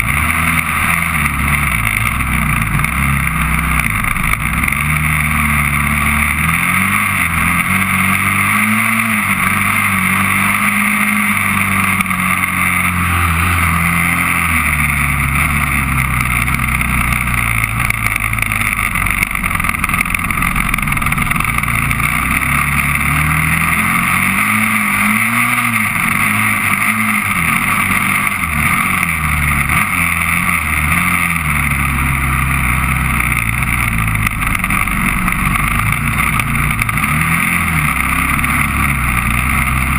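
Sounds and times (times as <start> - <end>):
engine revving: 0.0 - 39.9
steady rushing noise: 0.0 - 39.9.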